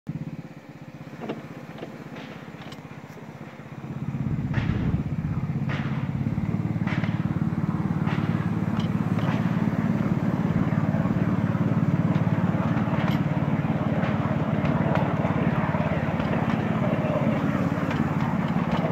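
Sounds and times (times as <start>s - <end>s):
miniature locomotive engine running: 0.1s - 18.9s.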